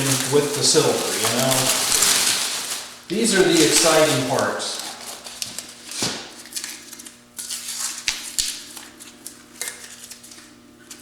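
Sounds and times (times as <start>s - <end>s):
masking tape peeling and tearing: 0.0s - 10.5s.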